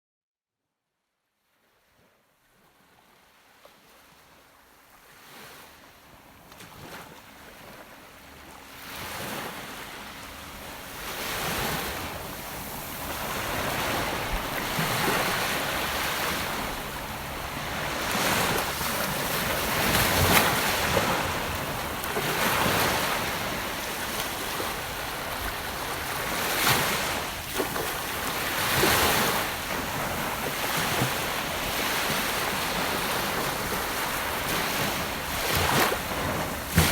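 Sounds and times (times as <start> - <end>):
ocean waves washing onto beach: 5.1 - 36.9.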